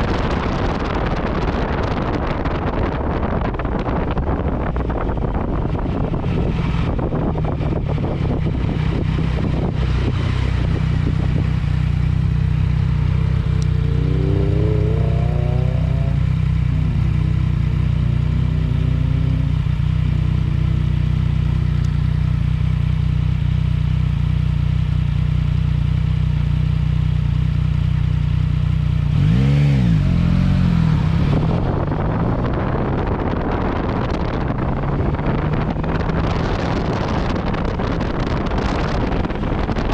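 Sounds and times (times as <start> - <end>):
wind noise on microphone: 0.0 - 22.4, 29.0 - 39.9
motorcycle engine cruising: 0.0 - 39.9.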